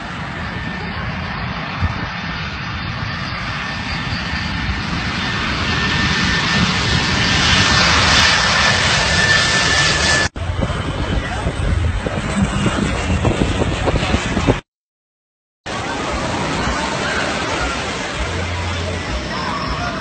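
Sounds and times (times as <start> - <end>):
high jet whine: 0.0 - 14.7, 15.7 - 20.0
jet engines rushing: 0.0 - 14.7, 15.7 - 20.0.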